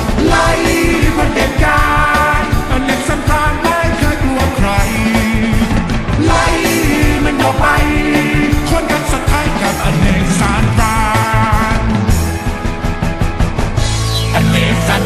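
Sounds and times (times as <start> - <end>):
loud rock music: 0.0 - 15.0
person singing: 0.1 - 12.1, 14.4 - 15.0.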